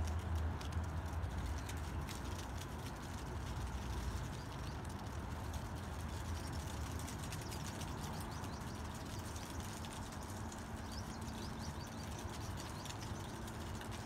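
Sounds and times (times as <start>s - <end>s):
small ticks and clicks: 0.0s - 14.0s.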